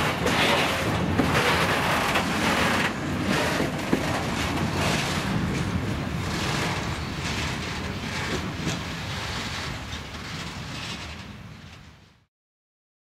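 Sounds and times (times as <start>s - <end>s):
train wheels rumbling: 0.0s - 12.3s.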